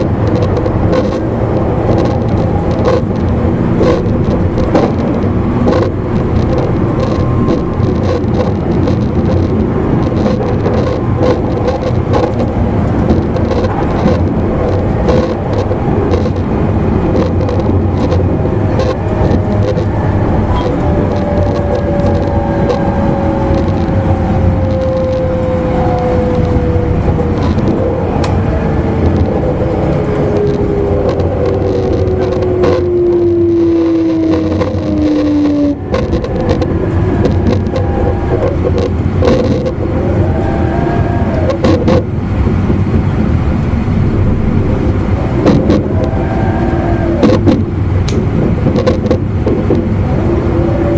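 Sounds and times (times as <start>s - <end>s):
traction motor whine: 0.0s - 42.2s
train wheels on rail: 0.0s - 50.9s.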